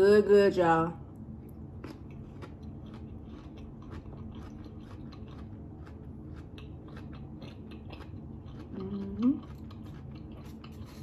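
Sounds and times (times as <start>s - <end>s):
low steady hum: 0.0s - 11.0s
chewing crunchy salad: 1.1s - 11.0s.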